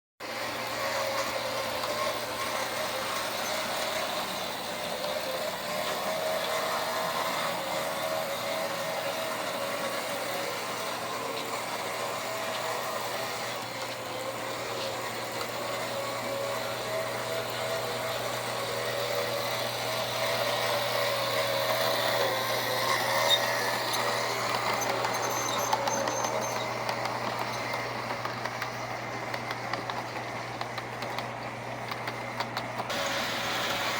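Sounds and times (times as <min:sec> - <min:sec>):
model train motor whining: 0:00.2 - 0:33.9
wheel noise: 0:00.2 - 0:33.9.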